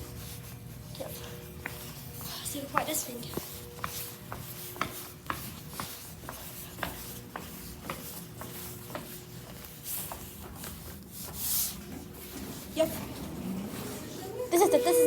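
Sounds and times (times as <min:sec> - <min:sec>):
footsteps on hard floor: 0:01.1 - 0:14.2.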